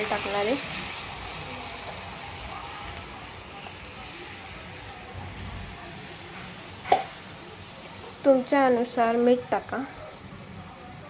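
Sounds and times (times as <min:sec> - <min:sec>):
batter sizzling in hot oil: 0:00.0 - 0:11.0.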